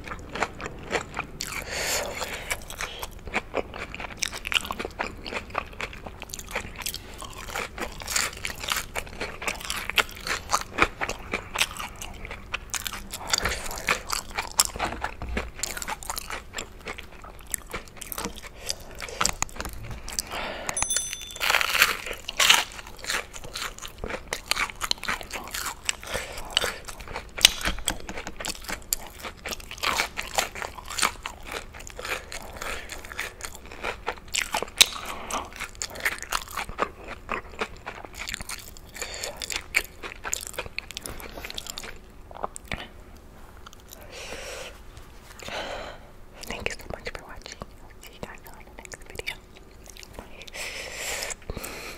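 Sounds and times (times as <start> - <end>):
crunchy chewing of fried food: 0.0 - 20.8, 21.8 - 51.9.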